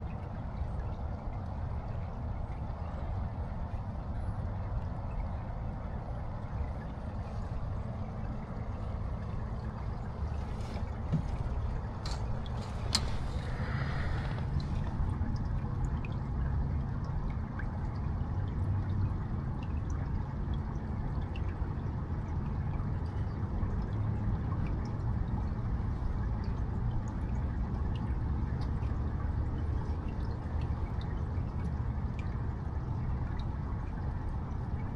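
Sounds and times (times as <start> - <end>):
water drips and splashes: 0.0 - 34.9
water trickling: 0.0 - 34.9.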